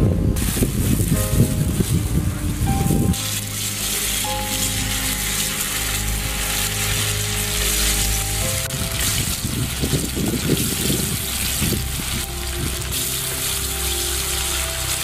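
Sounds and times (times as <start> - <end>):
background music: 0.0 - 15.0
chicken deep-frying in oil: 0.4 - 15.0.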